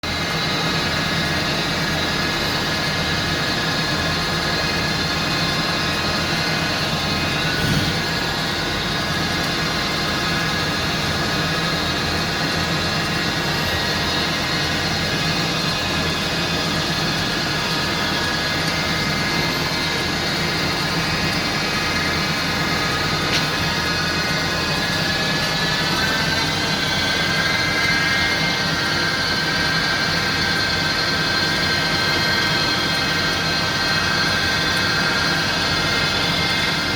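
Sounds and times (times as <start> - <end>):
machine drone with high whine: 0.0 - 36.9.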